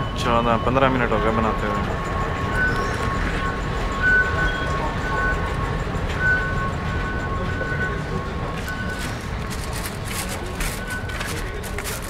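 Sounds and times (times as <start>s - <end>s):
high steady tones: 0.0s - 12.0s.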